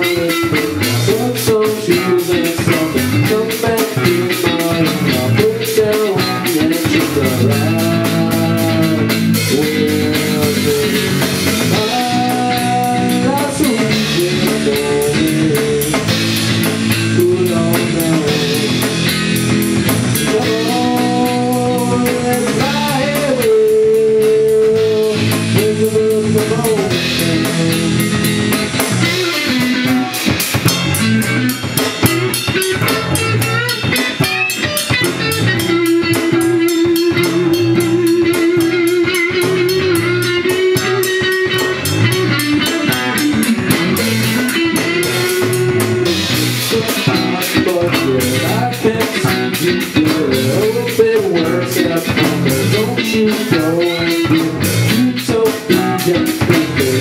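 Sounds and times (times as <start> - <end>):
drum kit: 0.0 - 57.0
rock guitar melody: 0.0 - 57.0.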